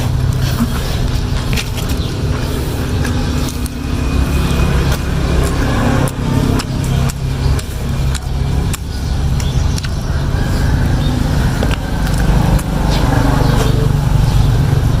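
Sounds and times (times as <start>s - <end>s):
loud low engine-like drone: 0.0s - 15.0s.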